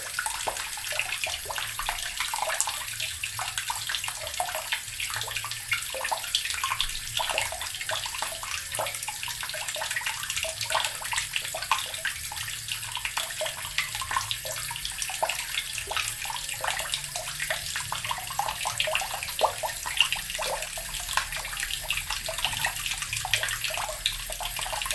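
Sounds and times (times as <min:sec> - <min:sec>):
water running from a tap: 0:00.0 - 0:24.9.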